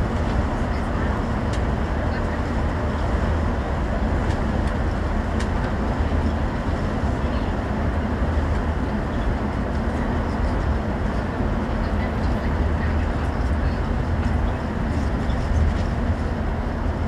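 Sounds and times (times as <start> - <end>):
bus engine drone and road noise: 0.0 - 17.0.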